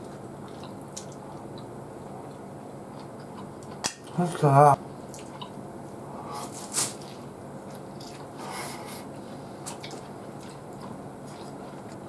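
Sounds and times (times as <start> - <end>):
person chewing: 0.0 - 3.9, 5.1 - 5.6, 6.2 - 12.0
steady low hum: 0.0 - 12.0.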